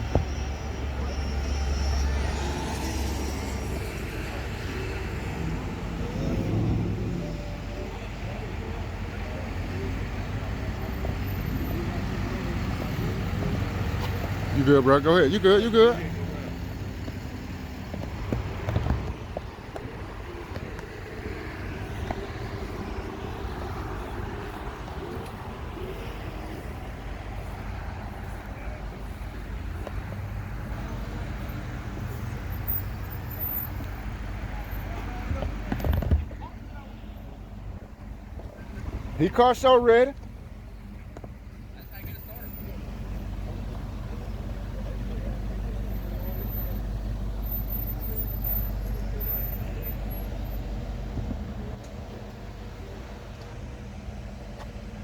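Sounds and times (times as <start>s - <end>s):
car engine low rumble: 0.0s - 55.0s
outdoor background noise: 0.0s - 55.0s.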